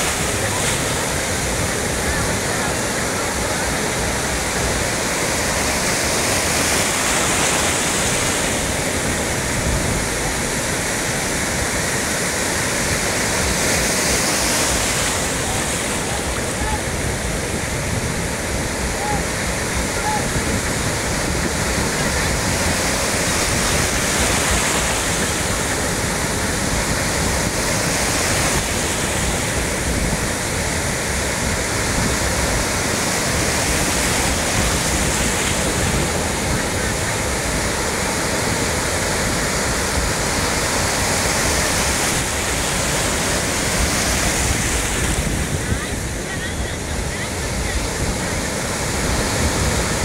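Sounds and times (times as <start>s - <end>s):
surf breaking in shallow water: 0.0s - 50.0s.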